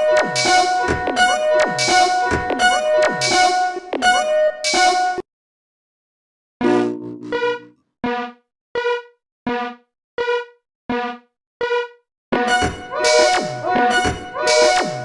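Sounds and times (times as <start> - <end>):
music: 0.0 - 5.2, 6.7 - 15.0.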